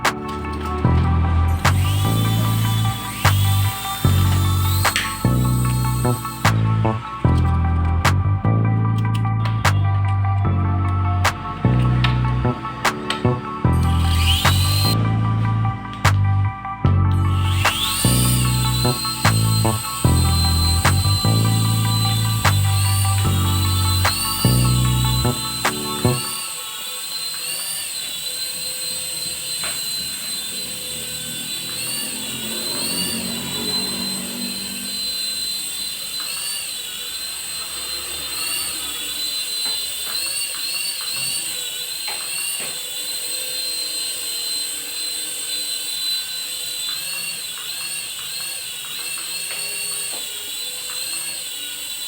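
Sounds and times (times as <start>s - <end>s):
toy helicopter motor whine: 0.0s - 8.1s, 8.9s - 52.0s.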